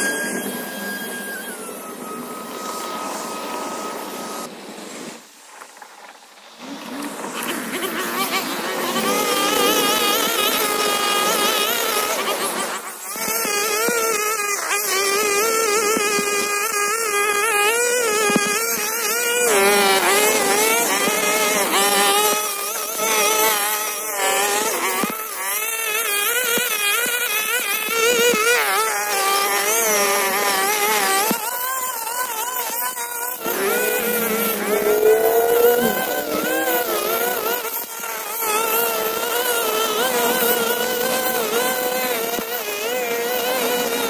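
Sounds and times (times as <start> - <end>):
string trimmer cutting grass: 0.0 - 44.0.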